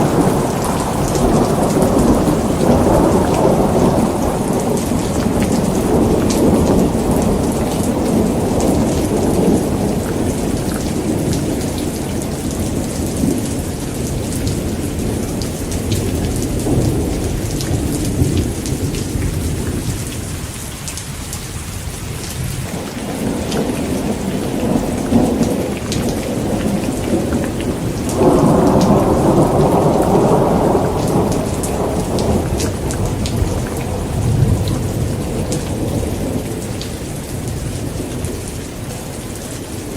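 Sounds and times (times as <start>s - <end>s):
loud thunder clap: 0.0s - 20.1s, 22.6s - 38.4s
thunder rumbling: 0.0s - 20.5s, 21.8s - 39.9s
heavy rain falling: 0.0s - 39.9s.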